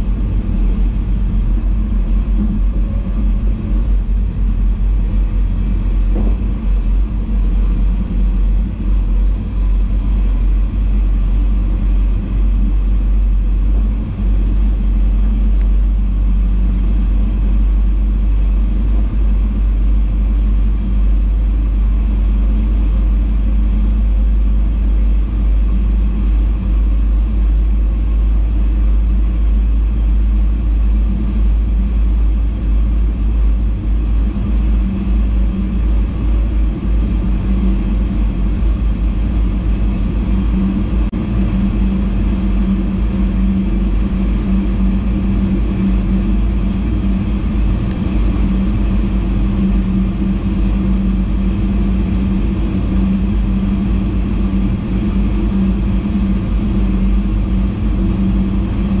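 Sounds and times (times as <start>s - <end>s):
steady hum: 0.0s - 59.0s
train wheels rumbling on rail: 0.0s - 59.0s.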